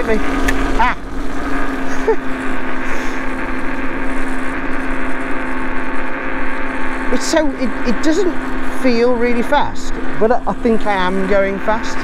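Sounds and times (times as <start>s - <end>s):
electric scooter motor whining: 0.0s - 12.0s.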